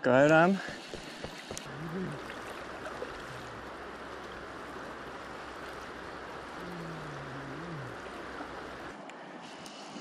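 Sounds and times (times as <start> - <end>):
river water rushing: 0.6 - 9.6.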